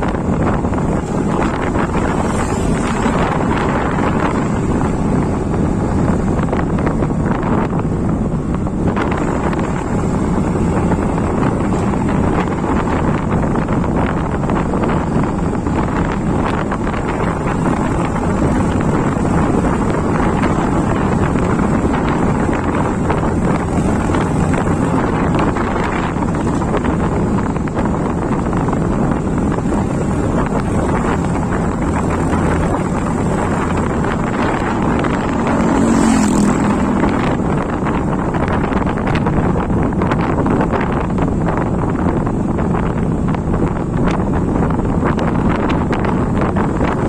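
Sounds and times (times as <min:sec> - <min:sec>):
motorcycle engine and road noise: 0:00.0 - 0:47.0
wind buffeting microphone: 0:00.0 - 0:47.0.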